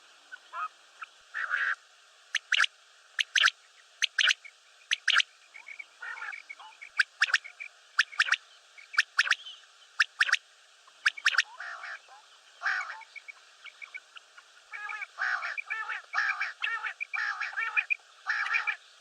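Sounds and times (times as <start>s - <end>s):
quail calling: 0.3s - 9.4s, 10.0s - 18.8s
soft raspy bird notes: 0.3s - 19.0s.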